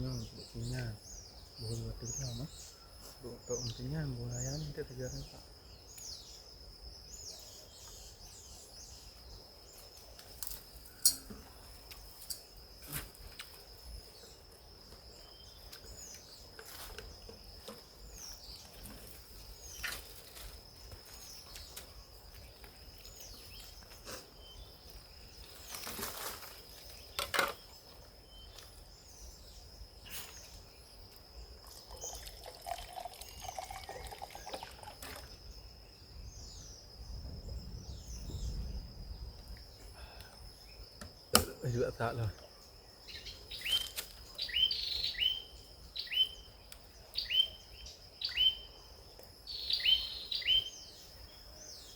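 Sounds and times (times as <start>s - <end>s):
high insect drone: 0.0s - 51.9s
small birds chirping: 0.0s - 51.9s.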